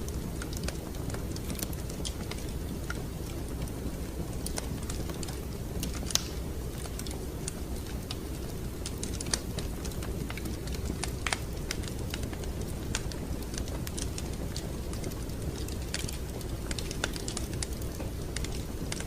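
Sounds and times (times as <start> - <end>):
fire crackling with pops and snaps: 0.0 - 19.0
low rumble of burning fire: 0.0 - 19.0.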